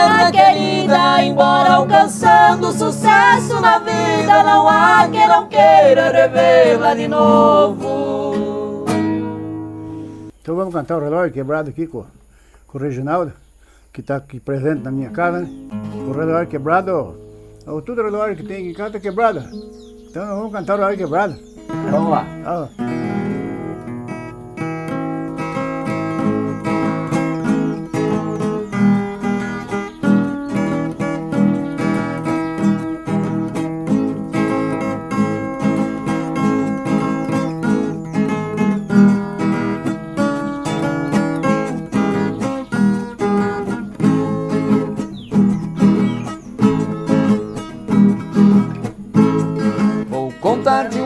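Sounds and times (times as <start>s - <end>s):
acoustic guitars strummed and picked: 0.0s - 11.6s, 14.6s - 51.0s.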